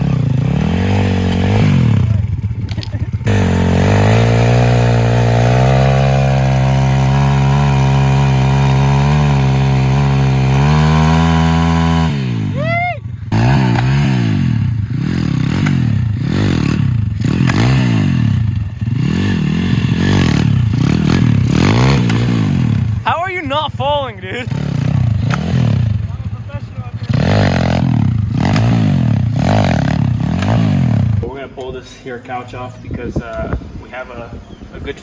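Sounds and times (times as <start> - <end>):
pit bike engine revving: 0.0 - 31.4.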